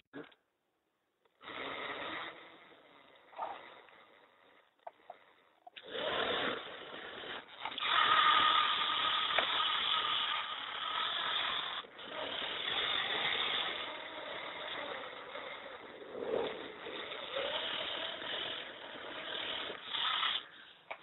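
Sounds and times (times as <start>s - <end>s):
small gear motors whirring: 1.3s - 21.0s.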